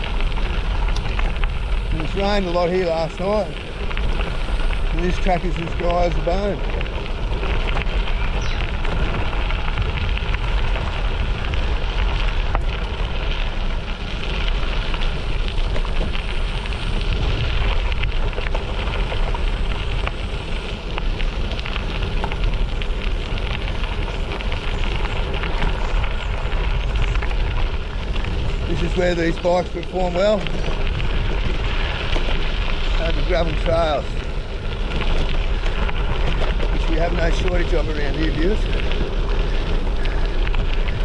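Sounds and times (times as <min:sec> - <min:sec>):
bicycle tyres on gravel: 0:00.0 - 0:41.0
wind on microphone: 0:00.0 - 0:41.0.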